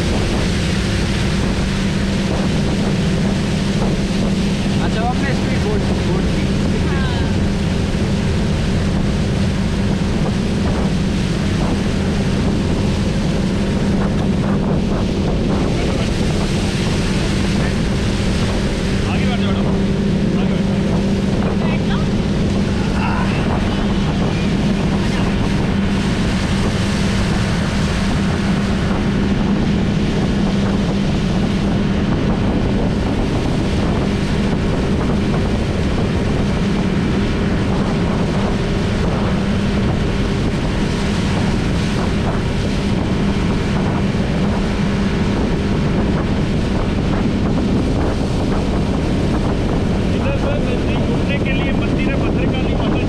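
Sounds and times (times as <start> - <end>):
outboard motor running: 0.0 - 53.0
water rushing past hull: 0.0 - 53.0
wind buffeting microphone: 0.0 - 53.0.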